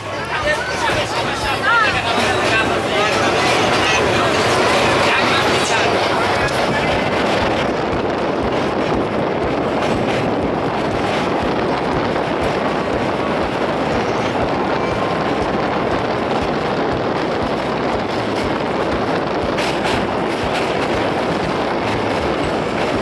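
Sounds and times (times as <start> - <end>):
train rumbling over a steel bridge: 0.0 - 23.0.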